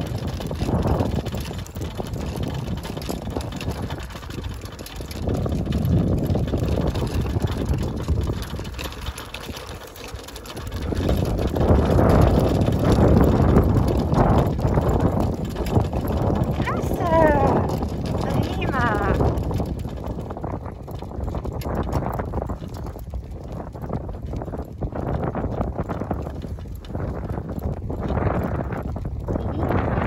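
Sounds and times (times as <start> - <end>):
cart wheels rolling on asphalt: 0.0 - 30.0
wind buffeting microphone: 0.0 - 30.0.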